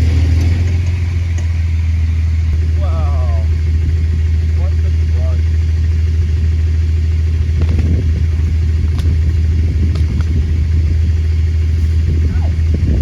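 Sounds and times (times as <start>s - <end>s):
large engine rumbling: 0.0s - 13.0s.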